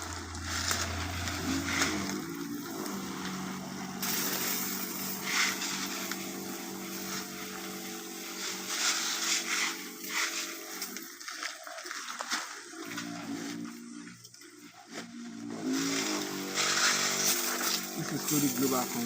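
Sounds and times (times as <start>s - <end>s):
sprayer hissing surges: 0.0s - 11.8s, 15.3s - 19.0s
crop sprayer engine running: 0.0s - 19.0s.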